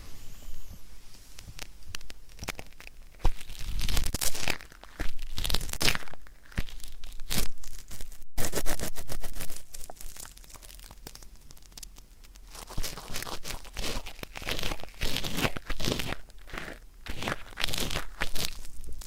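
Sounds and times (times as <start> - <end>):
ear pick scraping earwax: 0.0 - 19.0.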